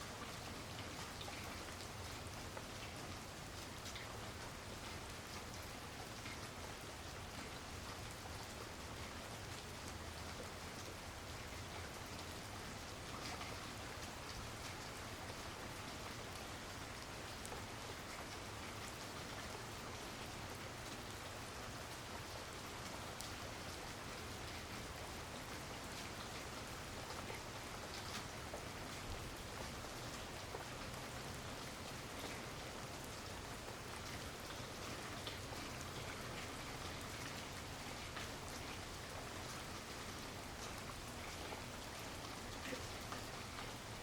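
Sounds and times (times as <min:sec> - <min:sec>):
raindrops ticking on surfaces: 0:00.0 - 0:44.0
steady rain hiss: 0:00.0 - 0:44.0.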